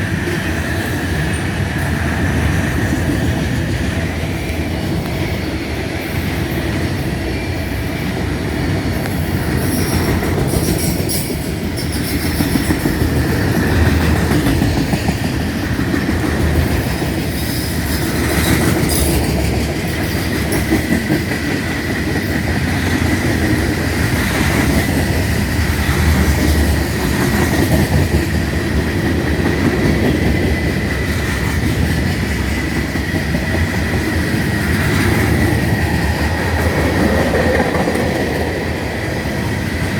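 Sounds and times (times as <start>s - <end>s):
train wheels clacking and rumbling: 0.0s - 39.9s.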